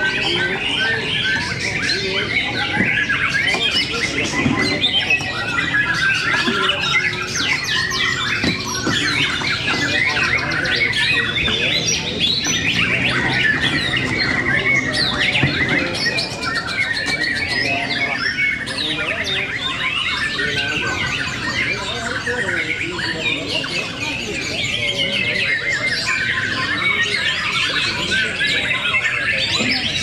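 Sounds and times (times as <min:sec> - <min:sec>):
murmur of people: 0:00.0 - 0:30.0
songbirds singing: 0:00.0 - 0:30.0.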